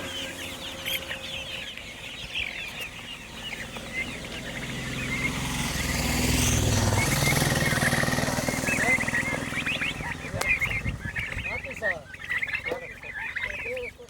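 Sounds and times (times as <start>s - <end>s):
chickens clucking: 0.0s - 14.0s
vehicle engine hum: 0.0s - 14.0s.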